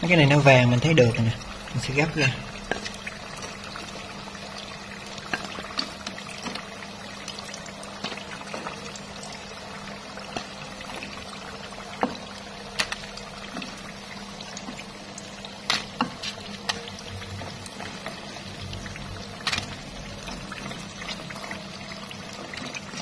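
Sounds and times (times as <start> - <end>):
food deep-frying in hot oil: 0.0 - 23.0.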